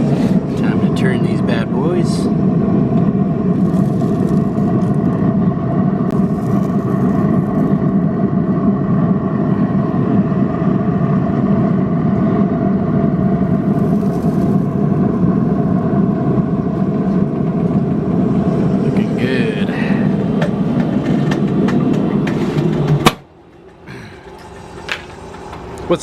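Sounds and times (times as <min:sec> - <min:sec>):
motor or fan humming: 0:00.0 - 0:26.0.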